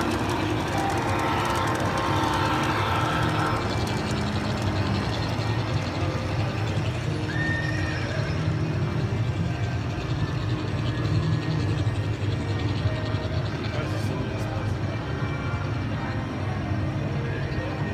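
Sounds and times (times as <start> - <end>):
model train rumbling: 0.0 - 17.9
wheels clicking rapidly: 0.0 - 17.9.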